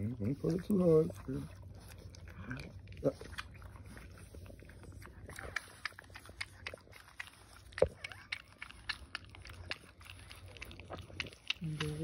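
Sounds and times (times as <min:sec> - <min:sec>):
dog licking with wet smacks: 0:00.0 - 0:12.0.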